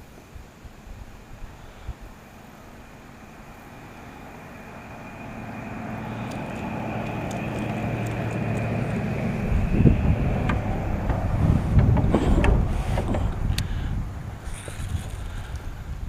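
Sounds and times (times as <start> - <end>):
motor hum with high whine: 0.0 - 16.0.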